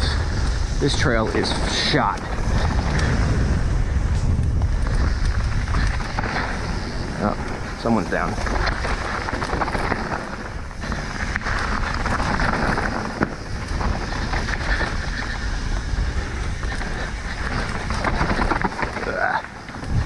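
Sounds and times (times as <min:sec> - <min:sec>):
bike rattling: 0:00.0 - 0:20.0
tyres on dirt and rock: 0:00.0 - 0:20.0
wind rushing over microphone: 0:00.0 - 0:20.0.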